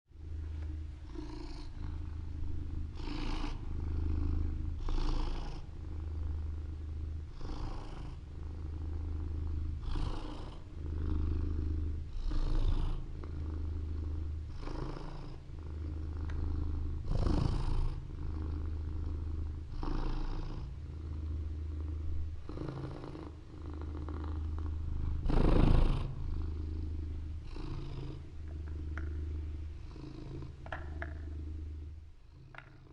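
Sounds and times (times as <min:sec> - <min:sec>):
cat purring: 0:00.2 - 0:32.9.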